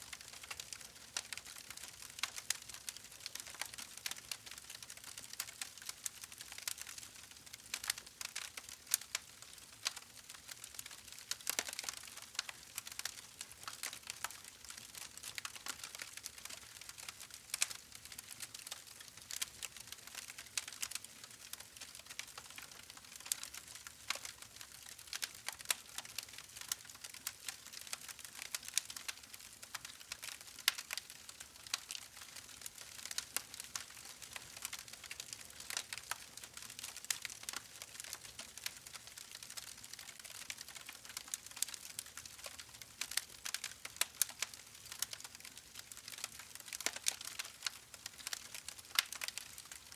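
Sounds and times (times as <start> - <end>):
wood fire crackling and popping: 0.1 - 49.9.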